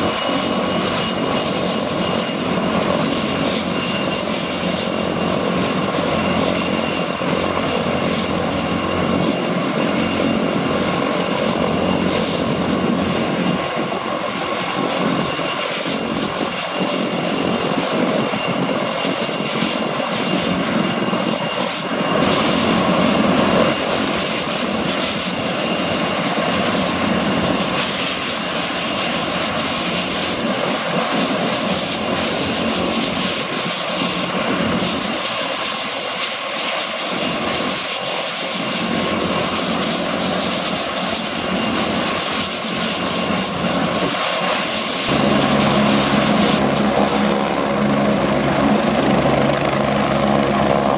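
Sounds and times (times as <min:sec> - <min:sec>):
helicopter rotor noise: 0:00.0 - 0:50.9
helicopter turbine whine: 0:00.0 - 0:50.9.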